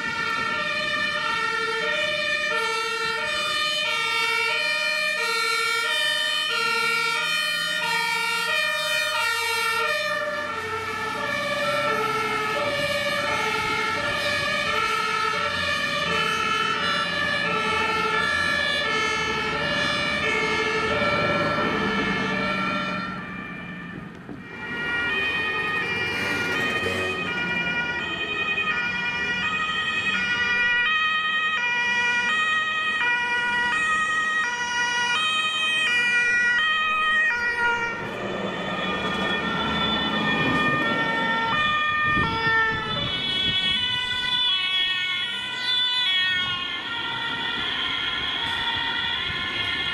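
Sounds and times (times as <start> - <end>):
truck engines passing: 0.0 - 49.9
two-tone fire engine sirens: 0.0 - 49.9.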